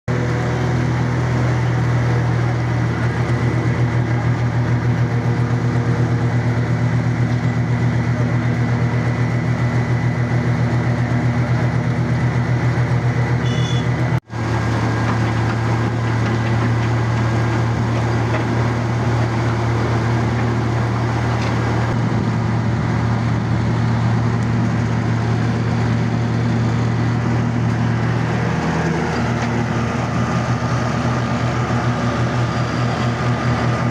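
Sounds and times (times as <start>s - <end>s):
construction machine engine running: 0.1s - 33.9s.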